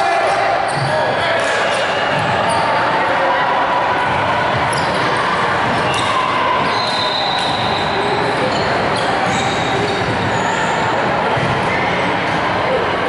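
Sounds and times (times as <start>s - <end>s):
echoing din of gymnasium: 0.0s - 13.0s.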